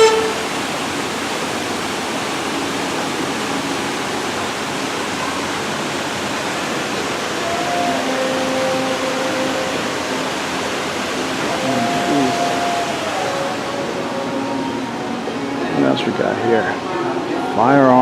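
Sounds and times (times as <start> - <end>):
indoor waterfall rushing: 0.0 - 18.0.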